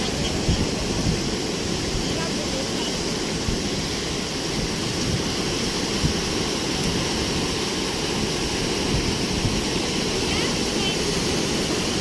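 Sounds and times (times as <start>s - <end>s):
heavy ocean surf breaking: 0.0s - 12.0s.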